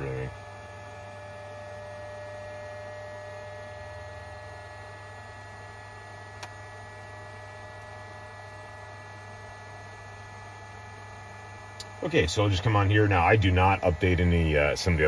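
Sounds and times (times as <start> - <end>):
electrical hum and whine: 0.0 - 15.0.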